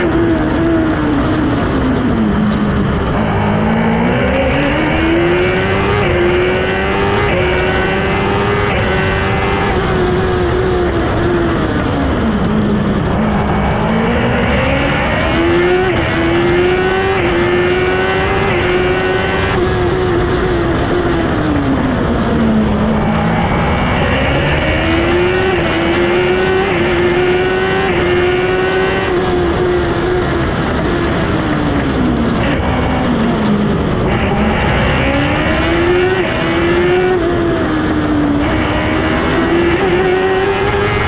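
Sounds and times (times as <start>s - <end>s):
race car engine revving: 0.0s - 41.0s
road noise: 0.0s - 41.0s
wind noise: 0.0s - 41.0s.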